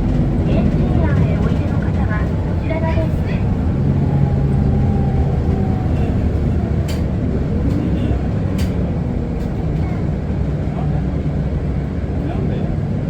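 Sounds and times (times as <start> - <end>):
diesel bus engine hum: 0.0 - 13.0
road noise: 0.0 - 13.0.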